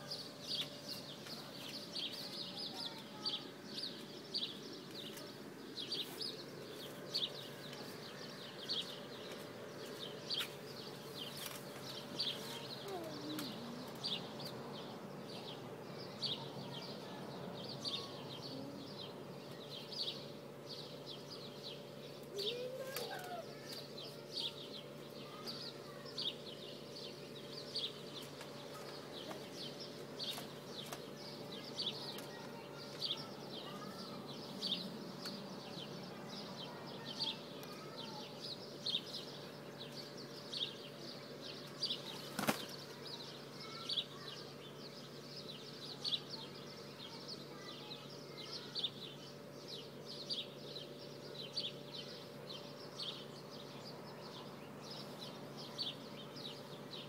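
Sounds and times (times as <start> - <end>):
small birds chirping: 0.0 - 57.0
steady low hum: 0.0 - 57.0.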